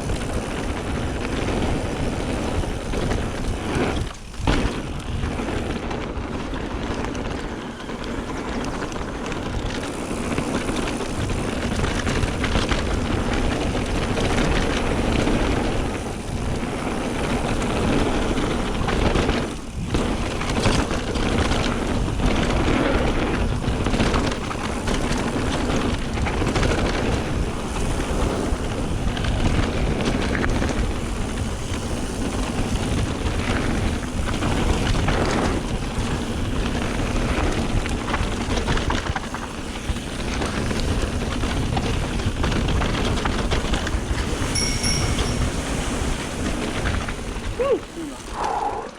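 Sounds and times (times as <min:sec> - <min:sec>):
bike rattling and knocking: 0:00.0 - 0:47.7
wind on microphone: 0:00.0 - 0:48.9.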